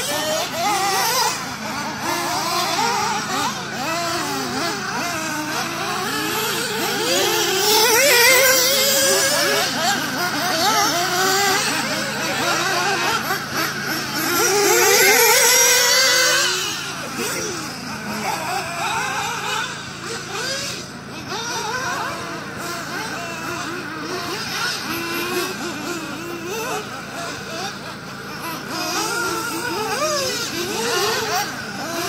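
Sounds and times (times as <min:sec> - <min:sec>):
rc car engines revving: 0:00.0 - 0:32.0.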